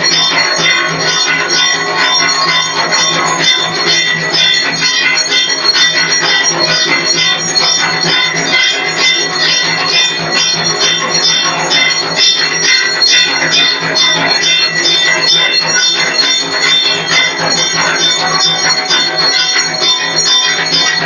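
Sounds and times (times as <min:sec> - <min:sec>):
metal bells ringing: 0:00.0 - 0:21.0.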